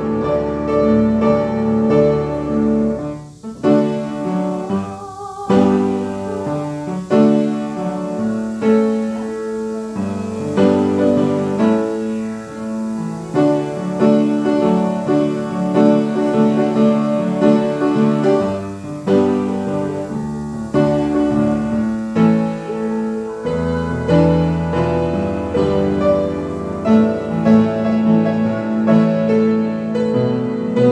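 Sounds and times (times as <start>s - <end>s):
piano playing slow chords: 0.0s - 30.9s.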